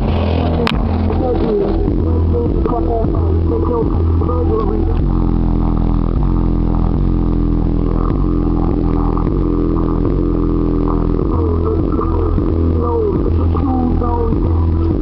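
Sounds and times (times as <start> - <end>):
bass-heavy music from car stereo: 0.0 - 15.0.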